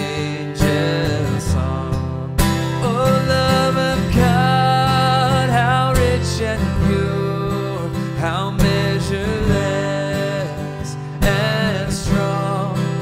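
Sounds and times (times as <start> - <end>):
man singing a hymn: 0.0 - 13.0
strummed acoustic guitar: 0.0 - 13.0.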